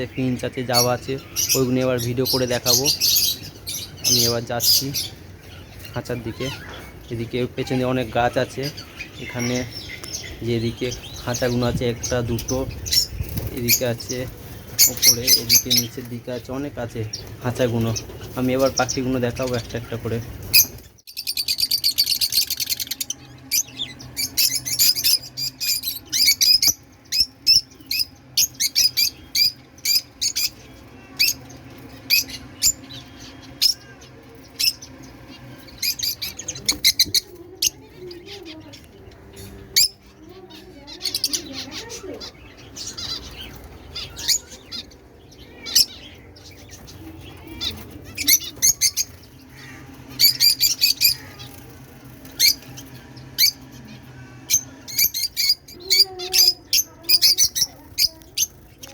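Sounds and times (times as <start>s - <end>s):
caged birds chirping and squawking: 0.0s - 58.9s.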